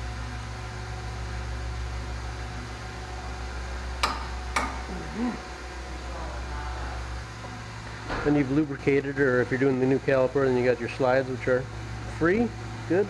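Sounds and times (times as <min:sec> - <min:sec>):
low hum of repair shop: 0:00.0 - 0:13.0.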